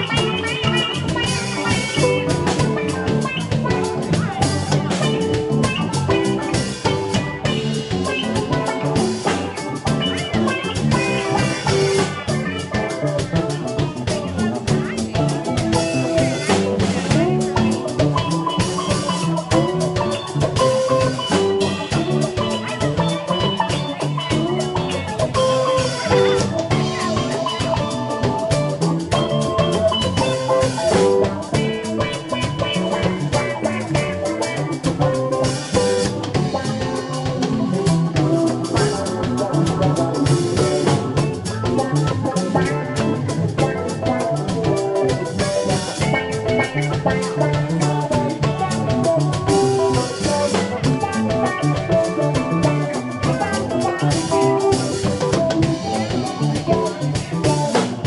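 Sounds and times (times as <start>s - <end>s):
live funk band playing: 0.0s - 58.0s.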